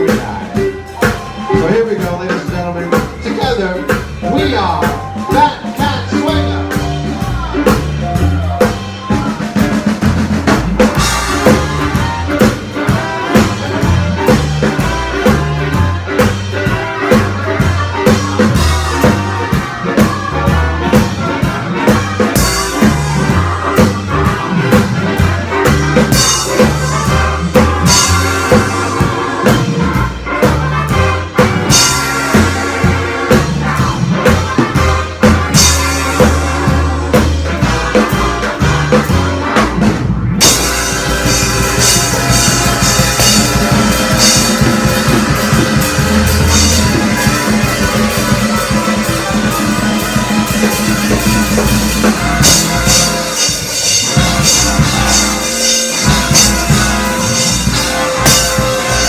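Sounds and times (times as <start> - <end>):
brass horns: 0.0 - 59.0
drum hits: 0.0 - 59.0
swing band playing: 0.0 - 59.0
walking bass: 0.0 - 59.0.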